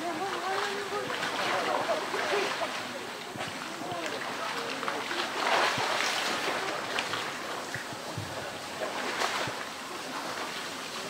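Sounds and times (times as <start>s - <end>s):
water splashing and churning: 0.0s - 11.0s.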